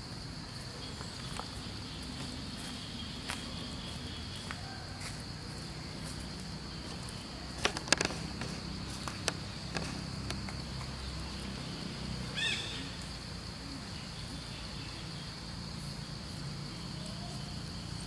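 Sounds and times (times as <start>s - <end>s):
insect buzz: 0.0s - 18.0s.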